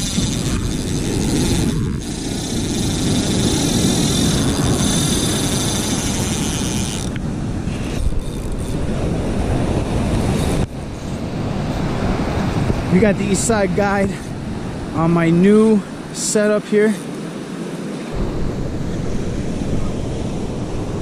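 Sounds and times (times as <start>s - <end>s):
wind buffeting microphone: 0.0s - 16.1s, 17.0s - 21.0s.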